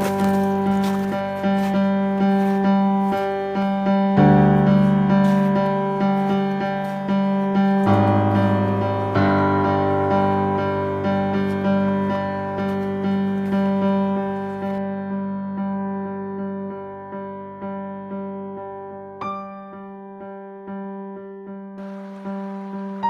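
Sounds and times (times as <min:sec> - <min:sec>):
piano repeated notes: 0:00.0 - 0:23.0.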